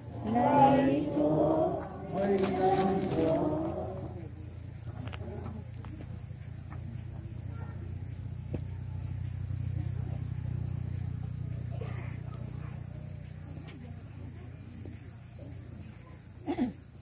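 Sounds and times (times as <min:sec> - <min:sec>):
low steady rumble: 0:00.0 - 0:14.1
faint distant voices: 0:00.0 - 0:17.0
insects chirring: 0:00.0 - 0:17.0.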